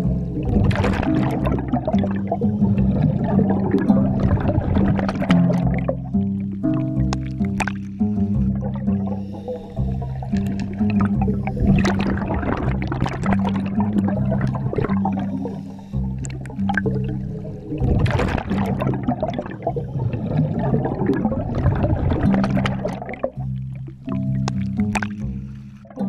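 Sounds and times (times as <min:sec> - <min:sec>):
background music with bass line: 0:00.0 - 0:26.0
water bubbling and gurgling: 0:00.0 - 0:26.0.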